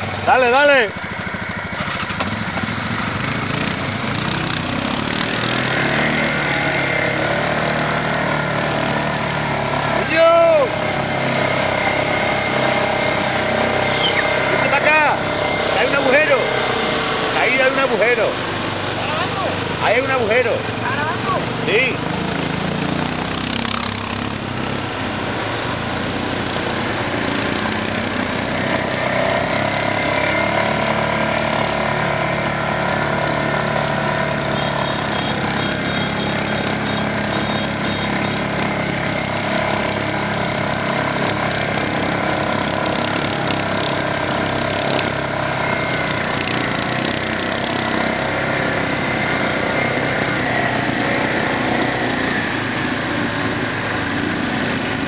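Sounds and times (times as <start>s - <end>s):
quad bike engines running: 0.0s - 55.0s.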